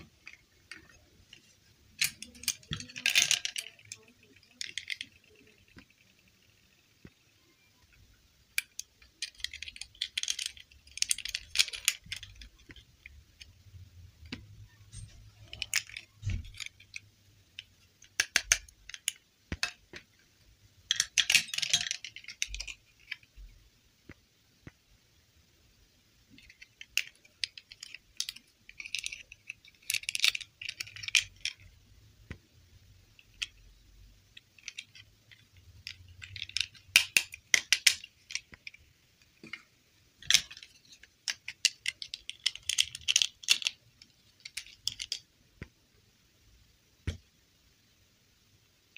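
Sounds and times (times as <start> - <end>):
plastic dolls clicking and rattling: 0.0 - 23.4, 26.3 - 45.3.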